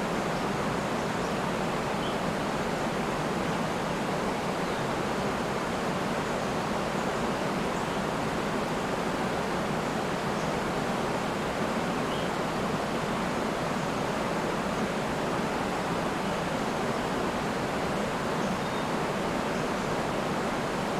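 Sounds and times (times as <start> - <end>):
river and waterfall rushing: 0.0 - 20.9.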